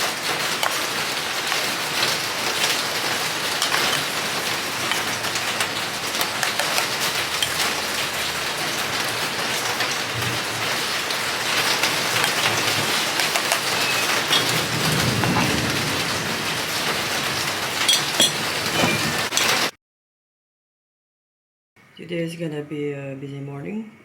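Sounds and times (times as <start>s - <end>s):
heavy rain falling: 0.0s - 19.7s.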